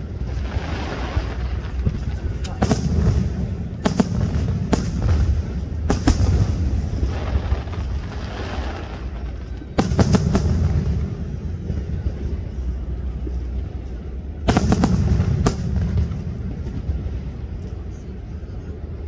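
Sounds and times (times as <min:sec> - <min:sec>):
fireworks bangs: 0:00.0 - 0:12.8, 0:14.4 - 0:17.8
deep rumble: 0:00.0 - 0:19.0.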